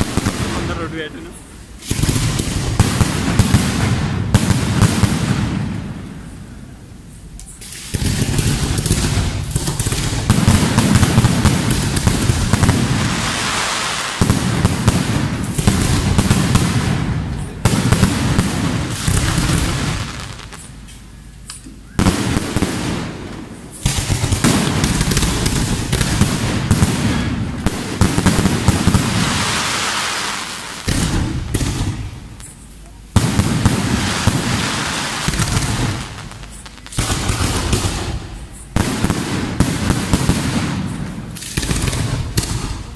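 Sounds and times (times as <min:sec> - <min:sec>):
fireworks crackling and popping: 0:00.0 - 0:42.9.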